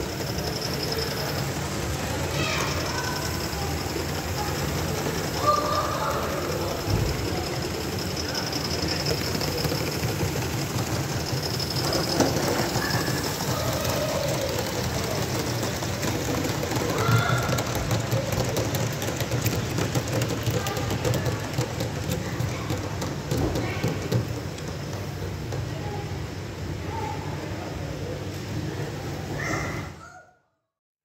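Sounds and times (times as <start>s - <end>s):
quick clicks from wheels: 0.0s - 26.6s
wheels rumbling on rails: 0.0s - 29.2s.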